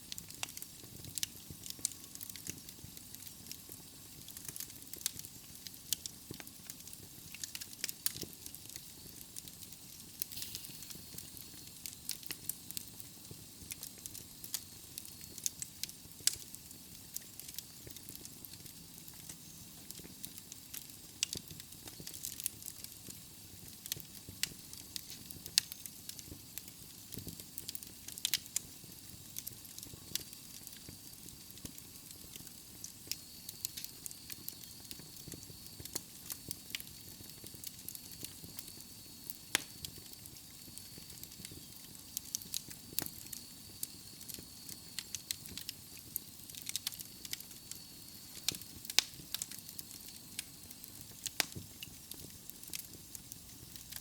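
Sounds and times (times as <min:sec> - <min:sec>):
logs crackling and popping in fire: 0:00.0 - 0:54.0.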